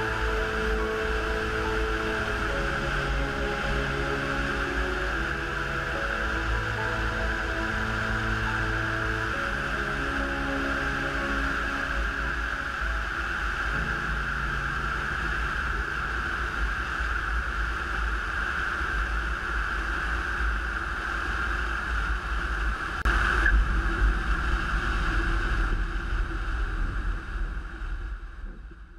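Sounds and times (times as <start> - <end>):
wind noise with low rumble: 0.0 - 28.9.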